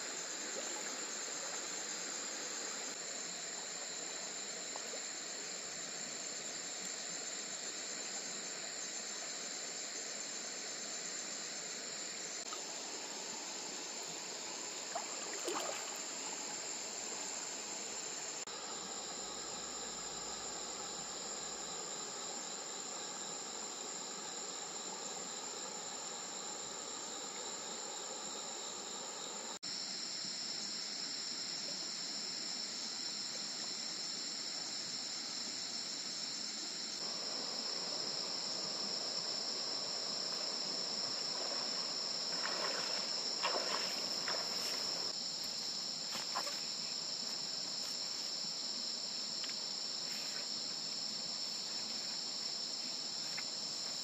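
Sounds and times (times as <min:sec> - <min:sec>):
crickets and insects trilling: 0:00.0 - 0:54.0.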